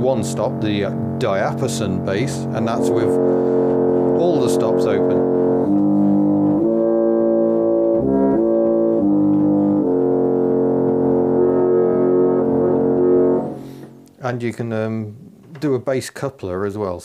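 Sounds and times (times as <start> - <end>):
reed organ chords: 0.0 - 15.2.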